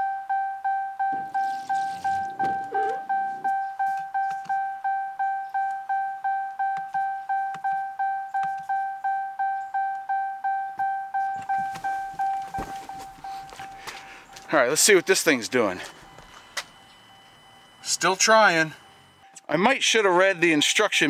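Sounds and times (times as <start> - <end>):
dashboard warning chime: 0.0 - 21.0.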